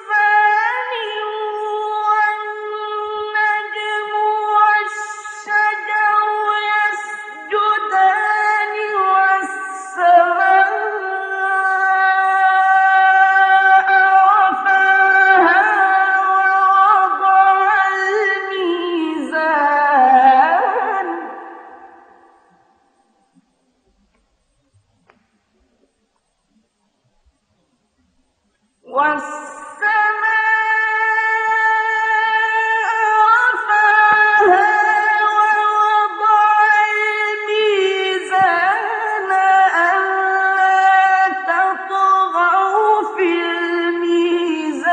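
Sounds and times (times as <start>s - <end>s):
person chanting: 0.0s - 22.3s, 28.9s - 44.9s
person reciting melismatically: 0.0s - 23.5s, 28.8s - 44.9s.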